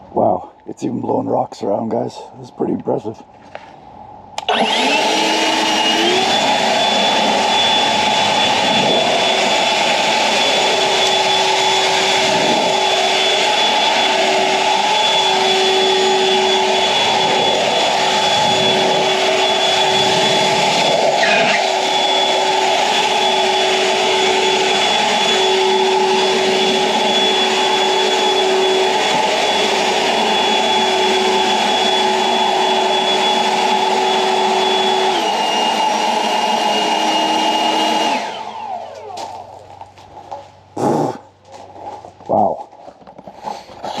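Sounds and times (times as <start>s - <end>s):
leaf blower running: 4.4s - 40.0s.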